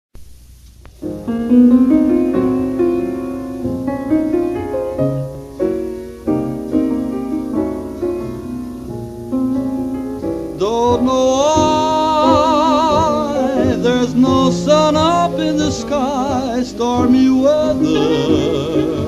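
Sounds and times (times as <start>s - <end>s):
slow piano chords: 0.8s - 19.0s.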